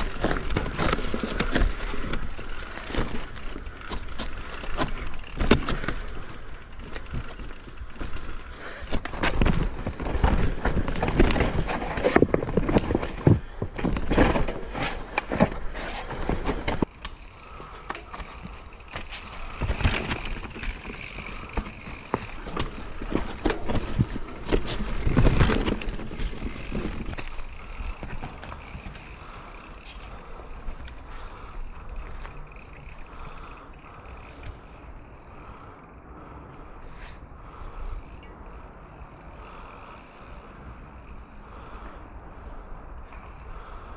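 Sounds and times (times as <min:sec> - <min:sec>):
mountain bike rattling: 0:00.0 - 0:43.9.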